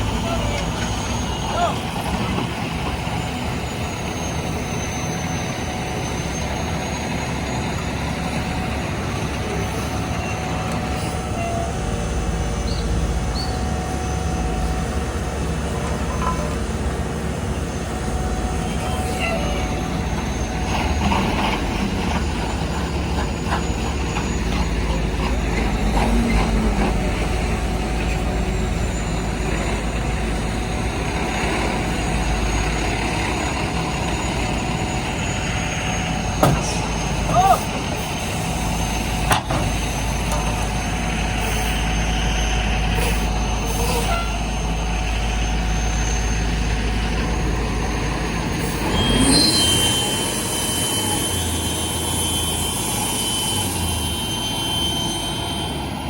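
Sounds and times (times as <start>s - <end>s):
heavy diesel machinery rumble: 0.0s - 56.0s.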